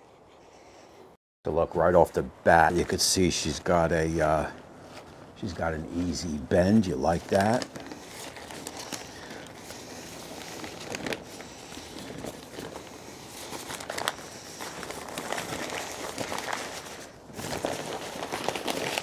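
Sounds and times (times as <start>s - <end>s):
butcher paper crinkling: 2.6s - 19.0s.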